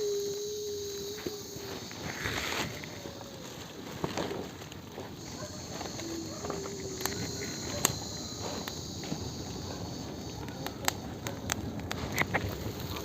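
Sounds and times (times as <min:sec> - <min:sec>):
low steady rush of fire: 0:00.0 - 0:13.0
wood fire crackling: 0:00.2 - 0:13.0.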